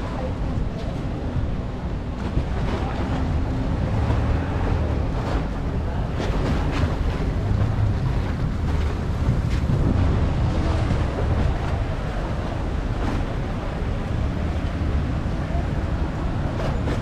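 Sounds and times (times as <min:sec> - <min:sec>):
outboard motors running: 0:00.0 - 0:17.0
wind buffeting microphone: 0:00.0 - 0:17.0.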